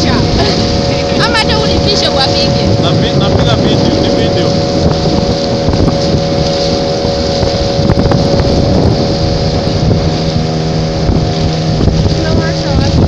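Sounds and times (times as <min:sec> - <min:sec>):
motorboat engine running: 0:00.0 - 0:13.0
wind buffeting microphone: 0:00.0 - 0:13.0.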